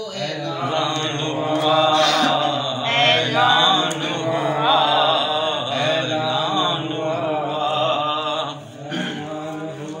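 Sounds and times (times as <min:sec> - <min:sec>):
man chanting unaccompanied: 0:00.0 - 0:10.0.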